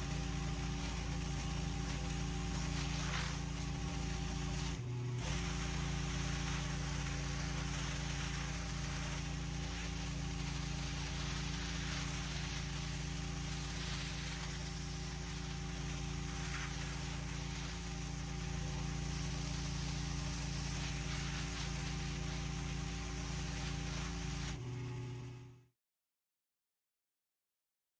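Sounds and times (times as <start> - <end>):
high-pressure water spray hiss: 0.0 - 24.6
pressure washer engine running: 0.0 - 25.6.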